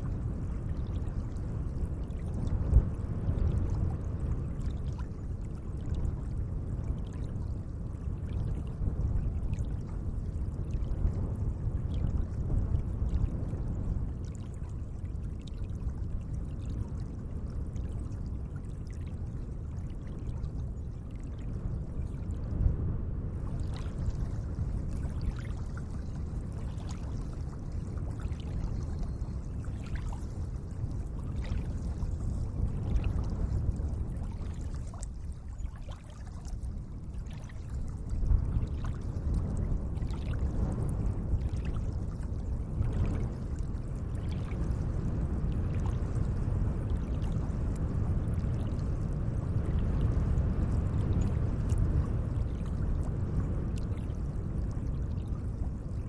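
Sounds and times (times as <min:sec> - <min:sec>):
small water splashes and trickles: 0:00.0 - 0:22.7, 0:23.3 - 0:56.0.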